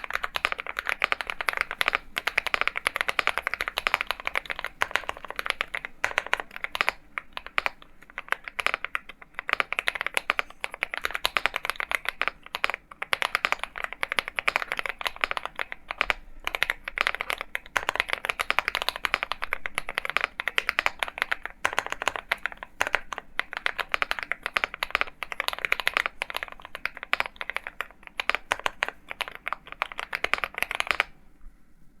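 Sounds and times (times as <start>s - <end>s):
fast mechanical keyboard typing: 0.0s - 31.2s.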